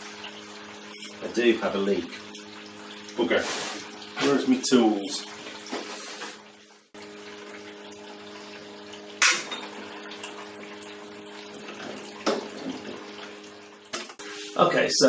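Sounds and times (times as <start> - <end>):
liquid running and splashing: 0.0 - 14.8
pump humming: 0.0 - 15.0.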